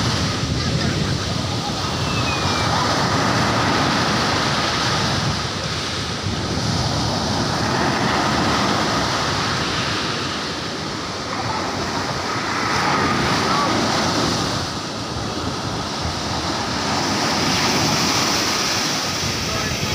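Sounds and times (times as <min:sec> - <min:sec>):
ocean surf washing up beach: 0:00.0 - 0:19.9.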